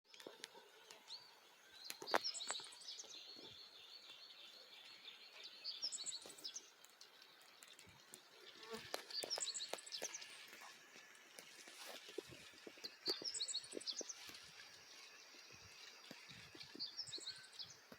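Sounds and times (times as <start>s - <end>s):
faint outdoor background noise: 0.1s - 17.9s
songbirds chirping and trilling: 0.1s - 17.9s.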